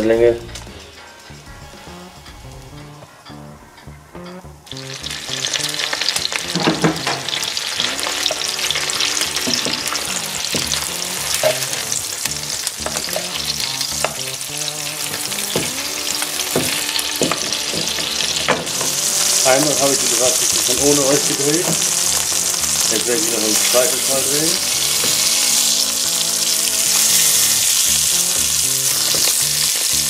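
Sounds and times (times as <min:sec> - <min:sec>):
sausages sizzling in a pan: 0:04.7 - 0:30.0.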